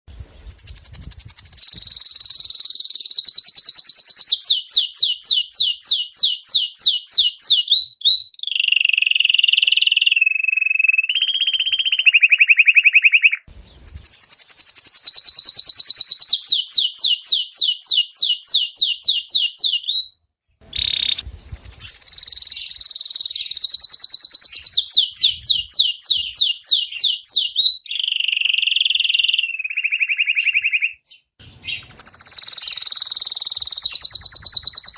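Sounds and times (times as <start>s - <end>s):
canary singing: 0.2s - 34.9s.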